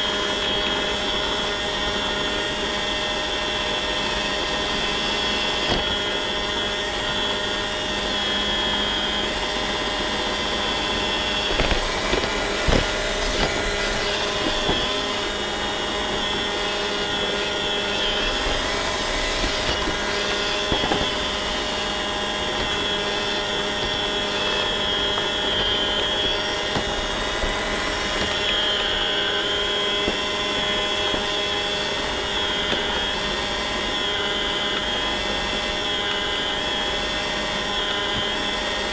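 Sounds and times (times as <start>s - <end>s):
robot vacuum whirring: 0.0s - 38.9s.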